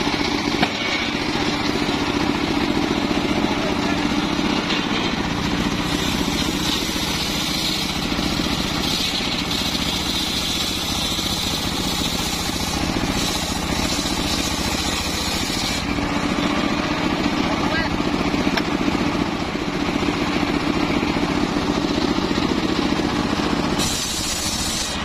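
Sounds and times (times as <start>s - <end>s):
saw blade cutting wood: 0.0s - 17.8s, 21.7s - 25.0s
saw drive motor running: 0.0s - 25.0s.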